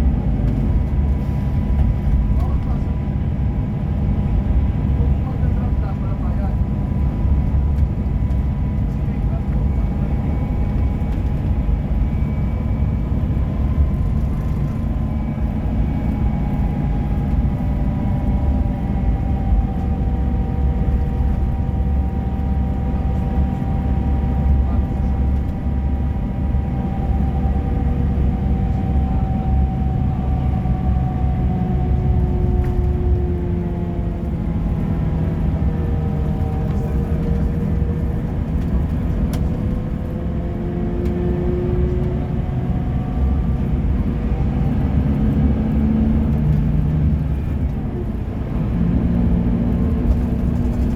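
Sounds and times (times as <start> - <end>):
bus engine and road rumble: 0.0 - 50.9.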